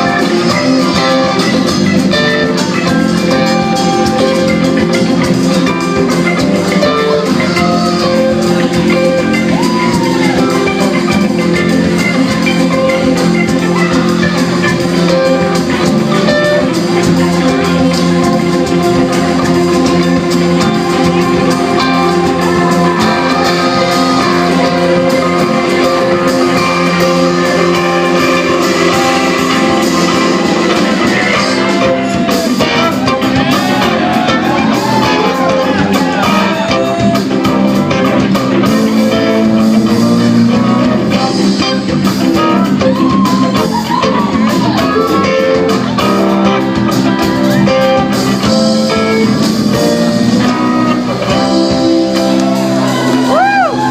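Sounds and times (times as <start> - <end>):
guitars: 0.0 - 53.9
live rock band playing: 0.0 - 53.9.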